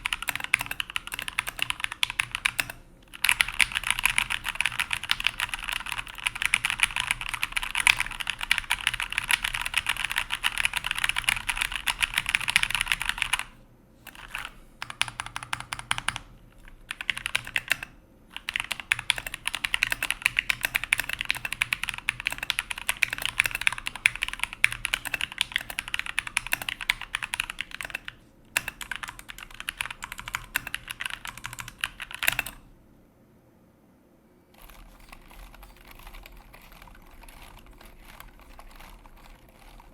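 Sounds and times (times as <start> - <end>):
fast typing on mechanical keyboard: 0.0 - 32.6, 34.6 - 39.9.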